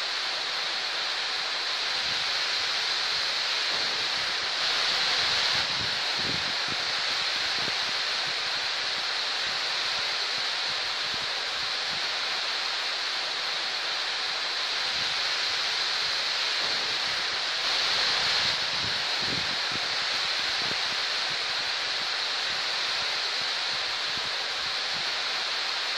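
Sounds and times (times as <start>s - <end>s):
heavy rain on trees and grass: 0.0s - 25.9s.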